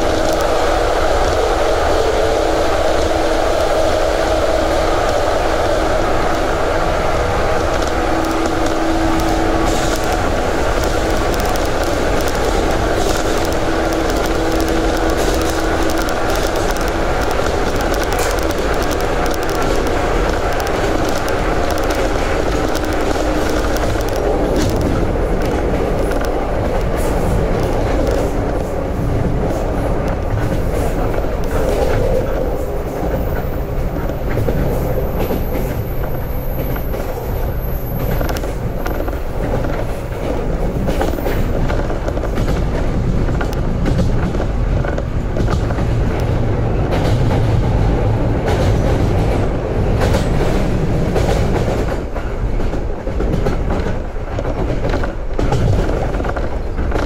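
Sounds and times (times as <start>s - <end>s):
rail-joint clicks: 0.0s - 57.0s
train wheels rumbling on track: 0.0s - 57.0s.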